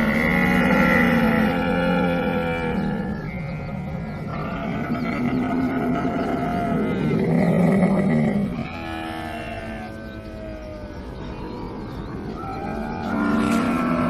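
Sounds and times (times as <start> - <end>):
camel calling: 0.0 - 11.1, 12.3 - 14.0.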